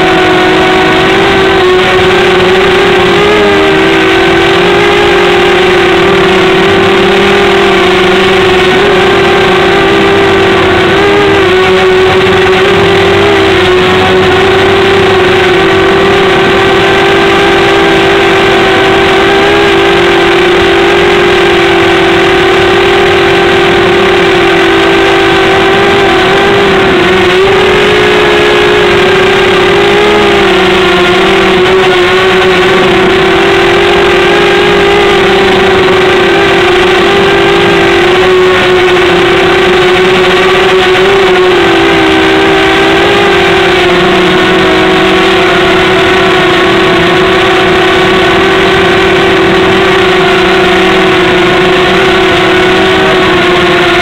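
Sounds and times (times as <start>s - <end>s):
small motor droning whine: 0.0s - 54.0s.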